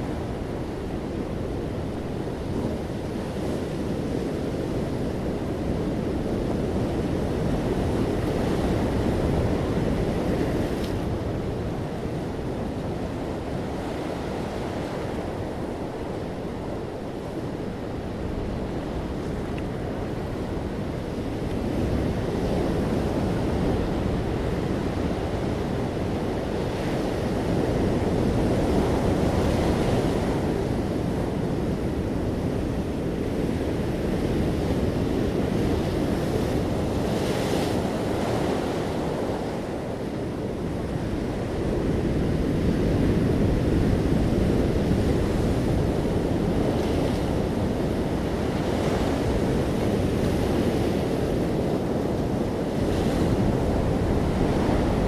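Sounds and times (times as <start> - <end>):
surf waves breaking: 0.1 - 55.0.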